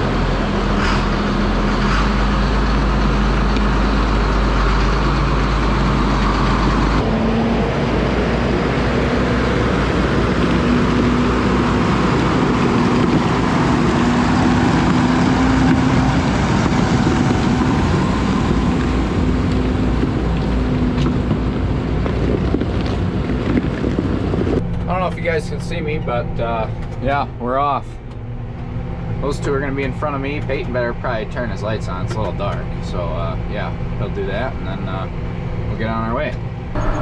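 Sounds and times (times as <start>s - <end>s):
tractor diesel engines running: 0.0s - 37.0s.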